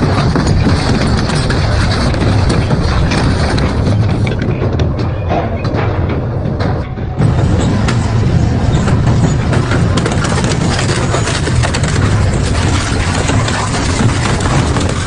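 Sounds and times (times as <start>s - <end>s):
low machine hum: 0.0s - 15.0s
metal shredder tearing metal: 0.0s - 15.0s.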